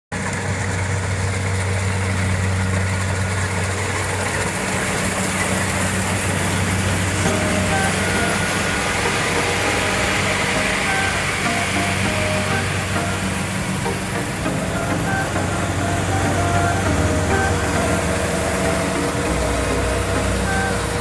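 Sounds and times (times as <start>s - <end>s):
combine harvester engine hum: 0.2s - 21.0s.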